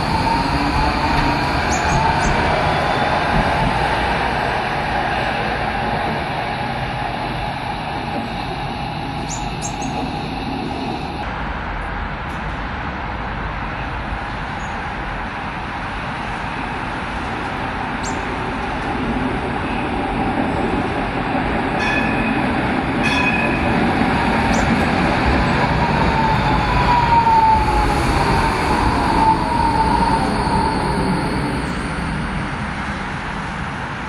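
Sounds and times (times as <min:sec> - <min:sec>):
tram wheels rumbling: 0:00.0 - 0:34.0.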